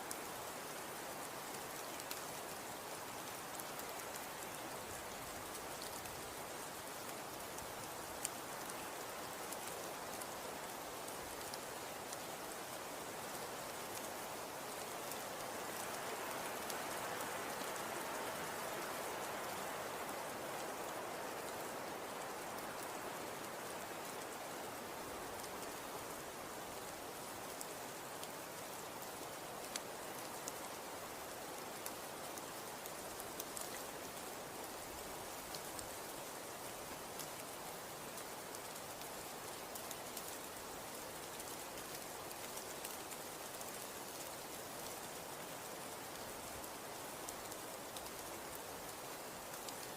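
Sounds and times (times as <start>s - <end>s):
wind hiss: 0.0s - 49.9s
faint ticks: 0.1s - 37.6s, 38.2s - 49.9s.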